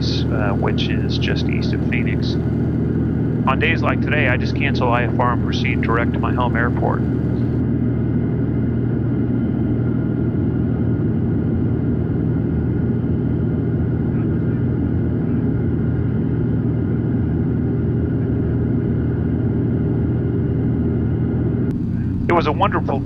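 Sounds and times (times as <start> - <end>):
airplane engine and propeller drone: 0.0 - 23.0.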